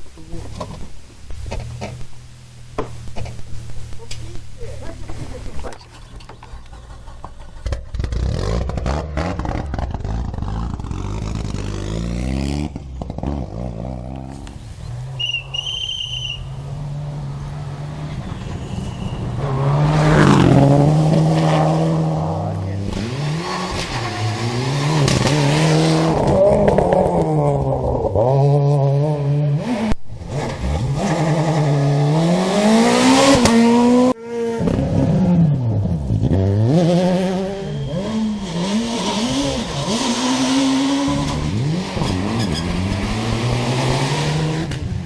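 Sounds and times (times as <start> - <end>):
rally car engines revving: 0.2 - 45.0.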